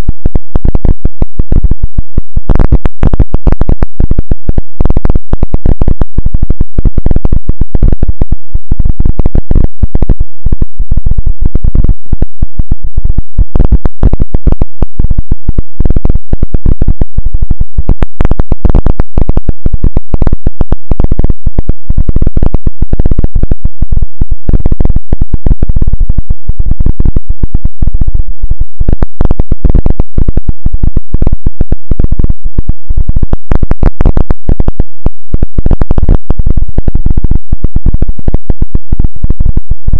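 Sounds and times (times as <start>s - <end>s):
heavily distorted crackling noise: 0.0s - 39.9s.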